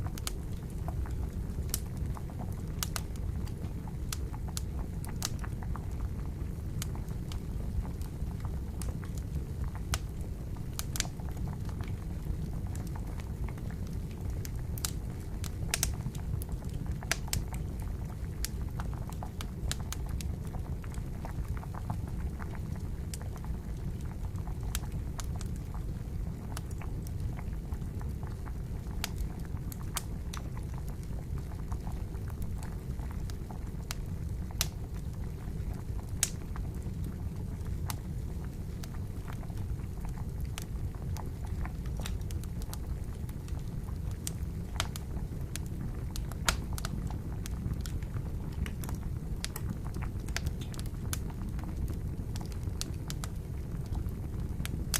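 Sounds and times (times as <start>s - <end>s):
campfire crackling and popping: 0.0s - 54.9s
water boiling in a pot: 0.0s - 54.9s.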